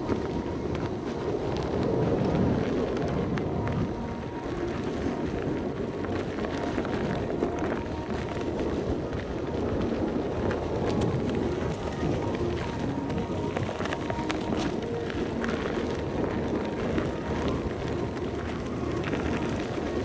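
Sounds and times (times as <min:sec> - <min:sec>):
faint motor whine: 0:00.0 - 0:20.0
small ticks and clicks: 0:00.0 - 0:20.0
wind on microphone: 0:00.0 - 0:20.0.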